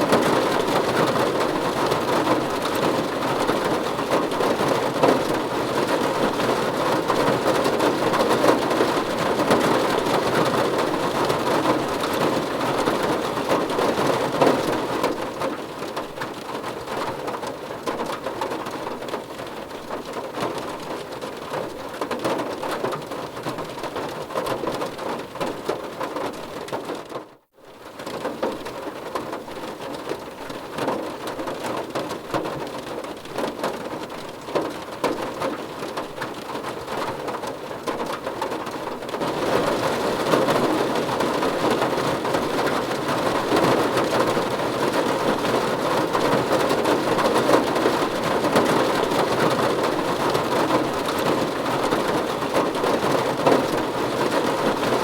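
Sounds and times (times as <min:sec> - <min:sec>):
rain falling on car body: 0:00.0 - 0:55.0.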